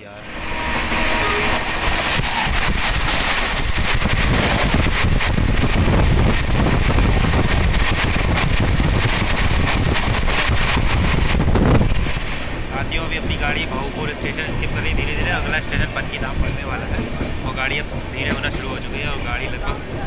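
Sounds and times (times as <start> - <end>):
train rail and wheel noise: 0.0 - 20.0
wind buffeting microphone: 0.7 - 20.0.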